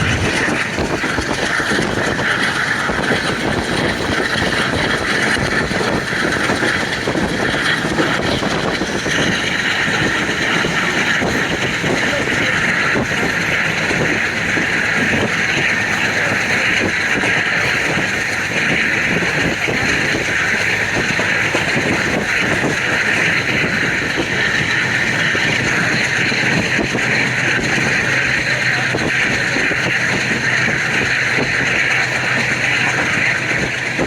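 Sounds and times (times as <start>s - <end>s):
rail clicks and clatter: 0.0s - 34.0s
train running noise: 0.0s - 34.0s.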